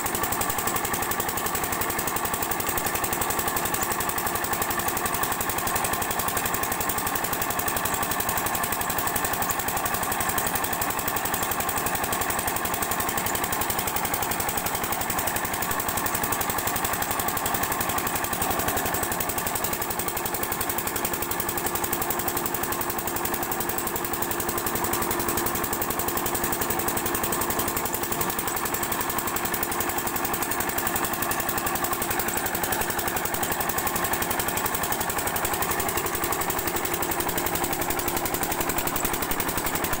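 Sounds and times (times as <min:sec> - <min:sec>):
diesel pump engine running: 0:00.1 - 0:40.0.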